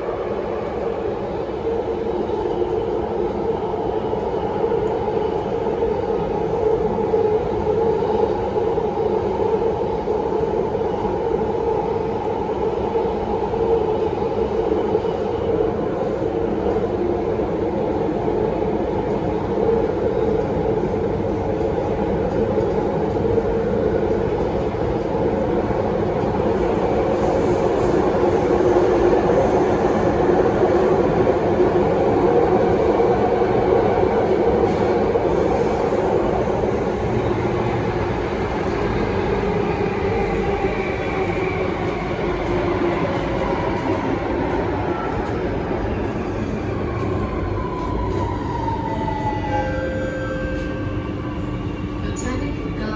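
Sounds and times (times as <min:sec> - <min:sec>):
metro train rumbling in tunnel: 0:00.0 - 0:52.9.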